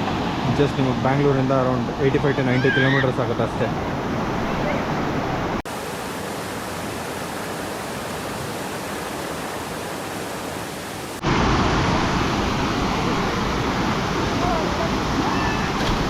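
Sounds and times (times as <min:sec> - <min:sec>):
falling water rushing: 0:00.0 - 0:16.0.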